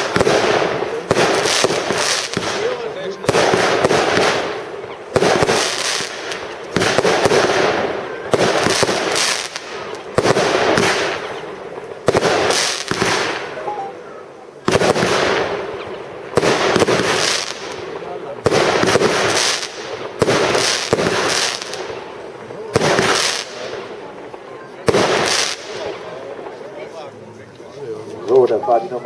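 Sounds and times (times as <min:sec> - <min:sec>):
fireworks bangs: 0:00.0 - 0:26.8
fireworks hissing and crackling: 0:00.0 - 0:29.0.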